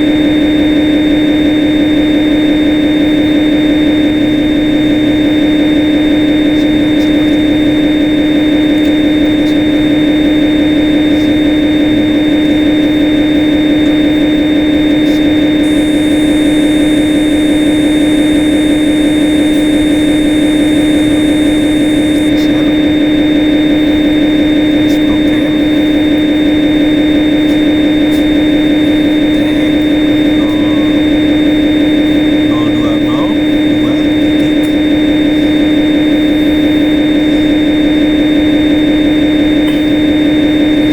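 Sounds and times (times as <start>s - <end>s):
machine hum with high whine: 0.0s - 40.9s.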